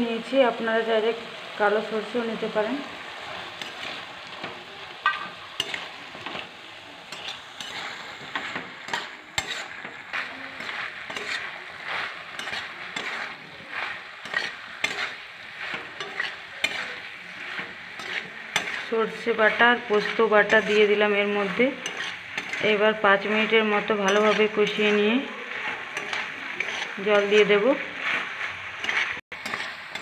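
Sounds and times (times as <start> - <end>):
vegetables sizzling: 0.0 - 30.0
metal spatula scraping wok: 0.2 - 30.0.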